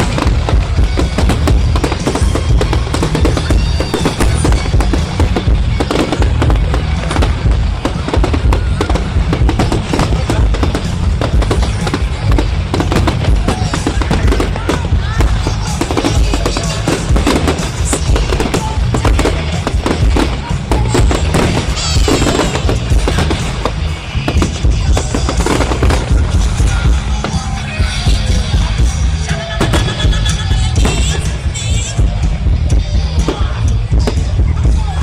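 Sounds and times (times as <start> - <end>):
fireworks bangs and crackles: 0.0 - 35.0
loud music: 0.0 - 35.0.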